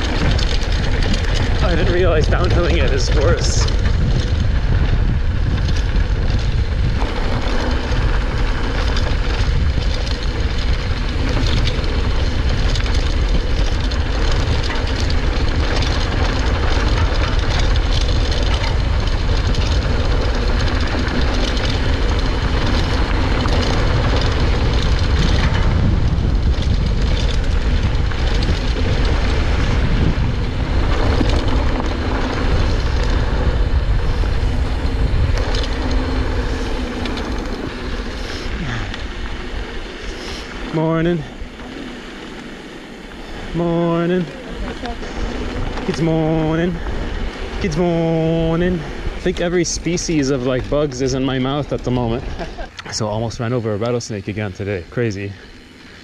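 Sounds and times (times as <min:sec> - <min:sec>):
bike rattles and clicks: 0:00.0 - 0:56.0
tyres crunching over dirt: 0:00.0 - 0:56.0
wind rush on microphone: 0:00.0 - 0:56.0.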